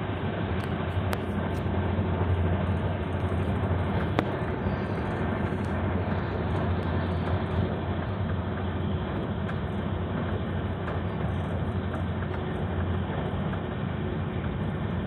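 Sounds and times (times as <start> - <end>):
low hum: 0.0 - 15.0
vehicle rumble: 0.0 - 15.0.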